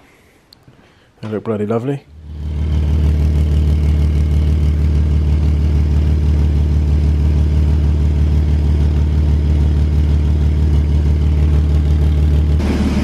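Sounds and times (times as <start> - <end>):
car engine idling: 2.1 - 13.0.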